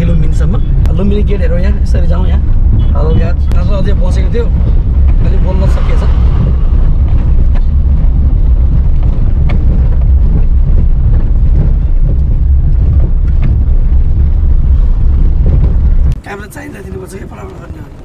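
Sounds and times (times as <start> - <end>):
car driving on dirt road: 0.0 - 18.0.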